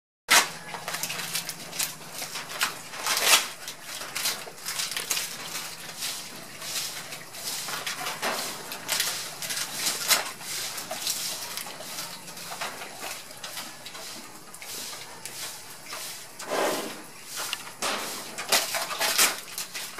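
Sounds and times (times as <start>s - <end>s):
leaves rustling: 0.3s - 19.9s
pigs chewing leaves: 0.3s - 19.9s.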